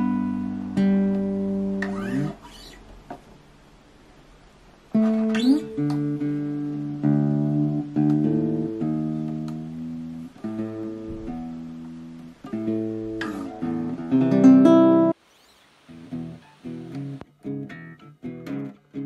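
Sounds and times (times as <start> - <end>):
nylon-string guitar fingerpicked: 0.0 - 3.4, 4.9 - 15.2, 15.9 - 19.0.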